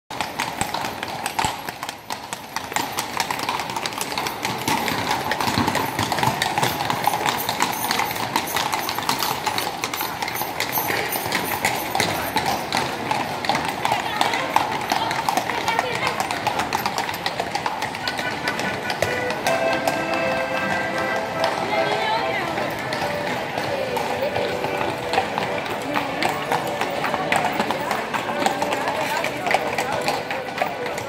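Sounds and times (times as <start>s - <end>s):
horse hooves clip-clopping: 0.1s - 31.0s.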